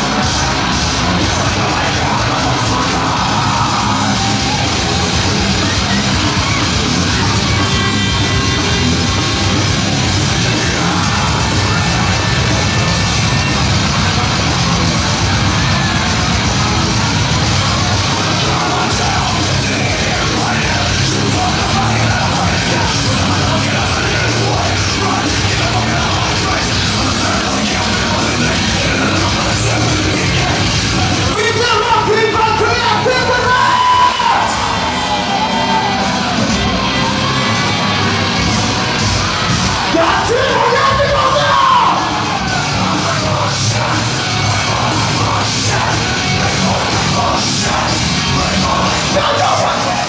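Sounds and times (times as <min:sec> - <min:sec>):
heavy rock music: 0:00.0 - 0:50.0.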